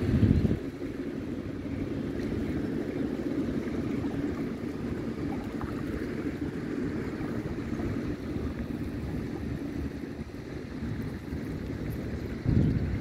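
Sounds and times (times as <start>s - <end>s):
small waves lapping: 0.0s - 13.0s
wind rumbling on microphone: 0.0s - 13.0s.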